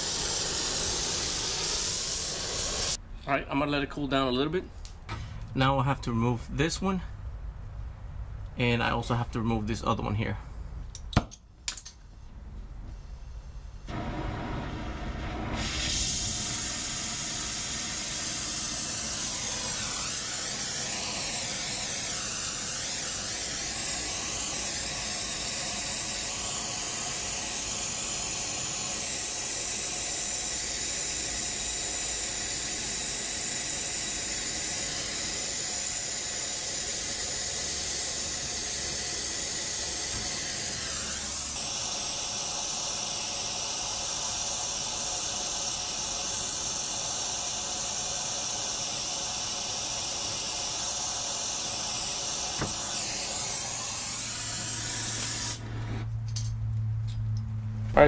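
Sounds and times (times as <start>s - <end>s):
gas torch flame hissing: 0.0s - 3.0s, 12.1s - 56.1s.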